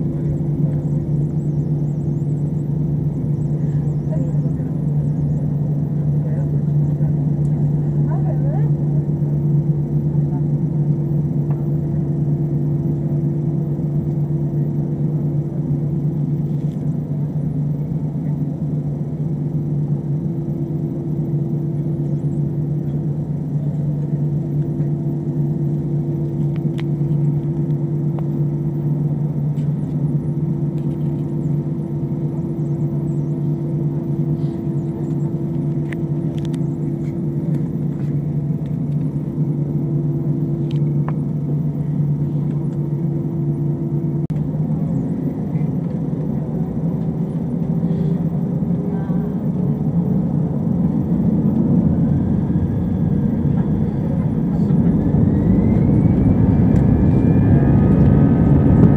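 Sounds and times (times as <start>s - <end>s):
jet engines humming and spooling up: 0.0s - 58.9s.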